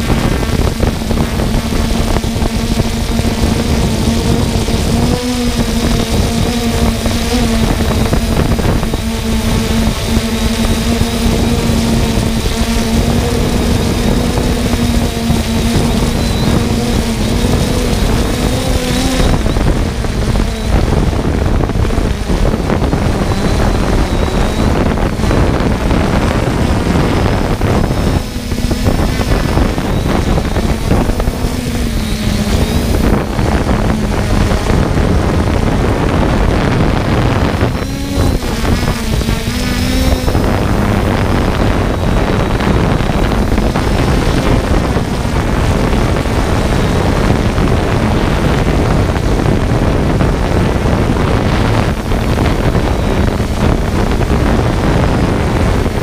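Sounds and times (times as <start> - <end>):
drone propellers humming: 0.0 - 56.0
wind rushing over microphone: 0.0 - 56.0.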